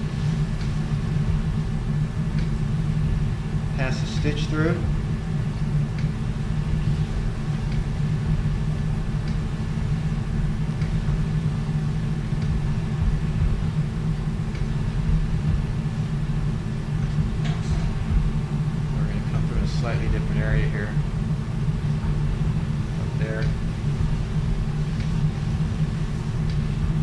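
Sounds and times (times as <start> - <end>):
low hum of equipment: 0.0 - 27.0.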